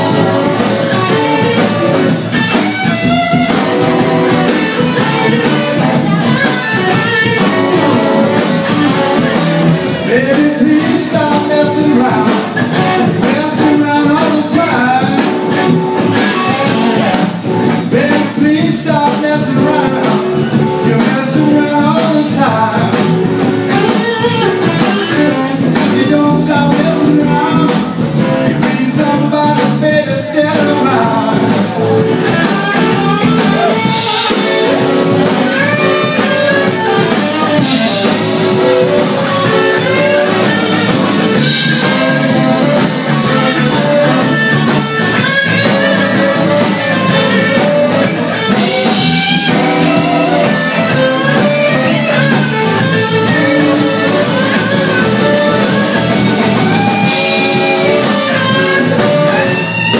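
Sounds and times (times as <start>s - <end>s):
bass: 0.0s - 59.9s
drums: 0.0s - 59.9s
electric guitars: 0.0s - 59.9s.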